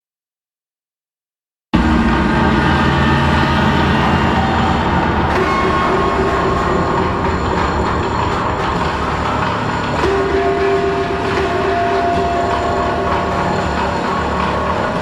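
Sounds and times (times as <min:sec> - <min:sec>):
dense noisy drone: 0:01.8 - 0:15.0.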